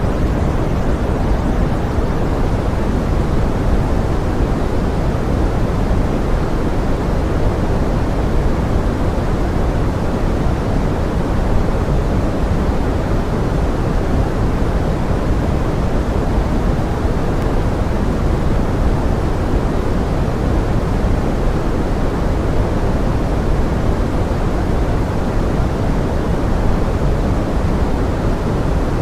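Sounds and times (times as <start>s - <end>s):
steady pink noise: 0.0s - 29.0s.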